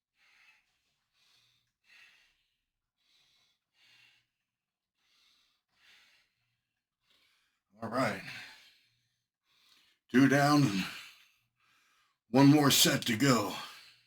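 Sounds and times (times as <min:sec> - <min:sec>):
man breathing heavily: 0:00.2 - 0:12.2.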